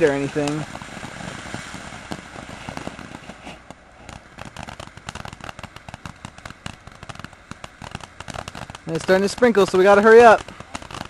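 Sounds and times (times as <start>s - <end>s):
fireworks hissing and crackling: 0.0s - 11.0s.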